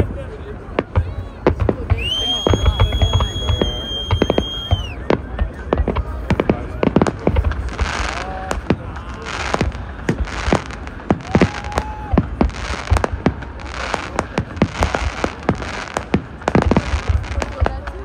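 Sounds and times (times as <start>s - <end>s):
fireworks and firecrackers banging: 0.0s - 18.0s.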